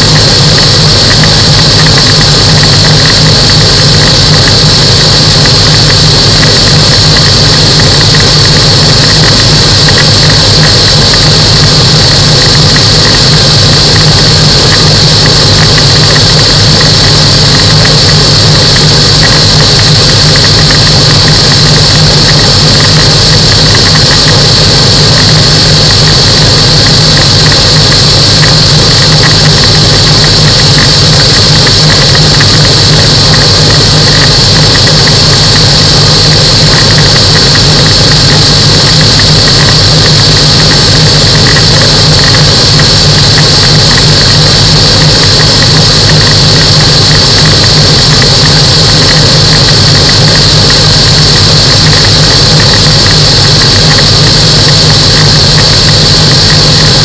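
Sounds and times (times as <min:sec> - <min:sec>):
high-pitched whine: 0:00.0 - 0:57.0
microlight aircraft engine drone: 0:00.0 - 0:57.0.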